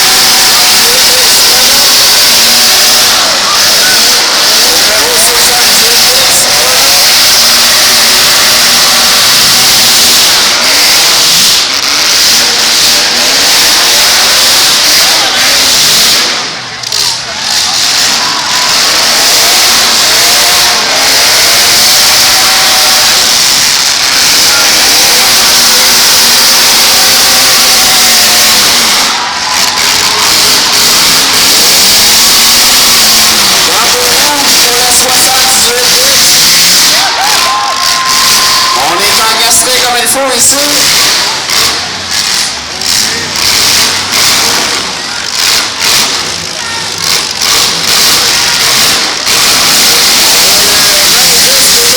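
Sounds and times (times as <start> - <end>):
car engines revving hard: 0.0 - 51.9
cars ramming each other: 0.0 - 51.9.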